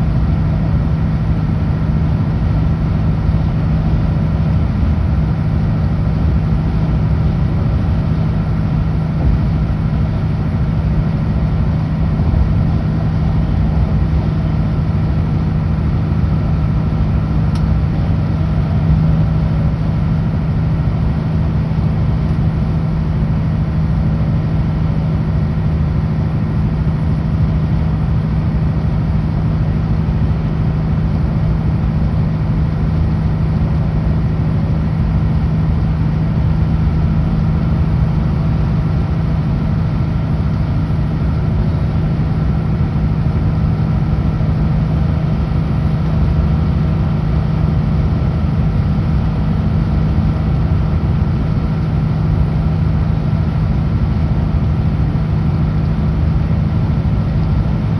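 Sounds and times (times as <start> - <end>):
rushing road noise: 0.0 - 57.9
truck diesel engine drone: 0.0 - 57.9.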